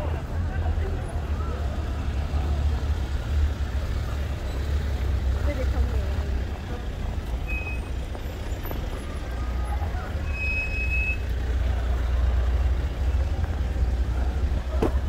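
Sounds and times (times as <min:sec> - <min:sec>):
faint voices of passers-by: 0:00.0 - 0:15.0
traffic rumble: 0:00.0 - 0:15.0.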